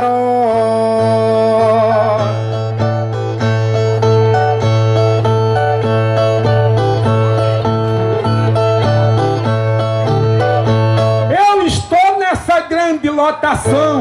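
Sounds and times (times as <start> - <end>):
plucked string instrumental: 0.0 - 14.0.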